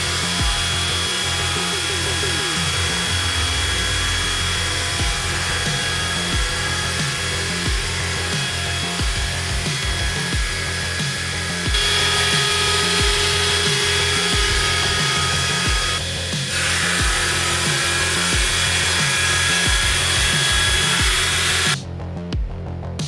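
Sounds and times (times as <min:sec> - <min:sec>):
finishing machine whining: 0:00.0 - 0:21.8
background music: 0:00.0 - 0:23.0.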